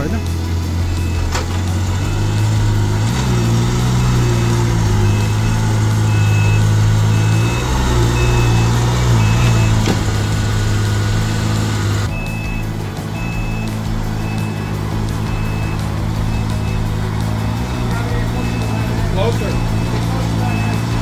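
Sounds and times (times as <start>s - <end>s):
electronic warning beep: 0.0s - 21.0s
vehicle engine running: 0.0s - 21.0s.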